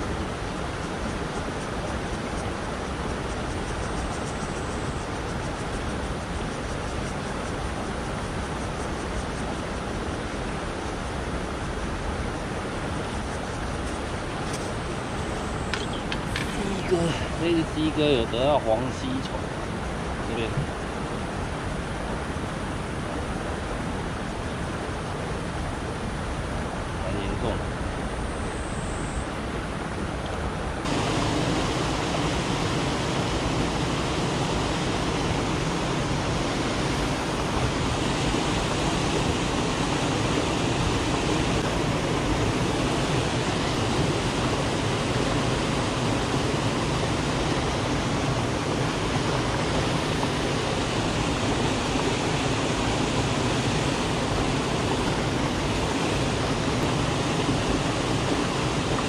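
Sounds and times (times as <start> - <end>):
water rushing over a weir: 0.0 - 27.8, 29.5 - 59.0.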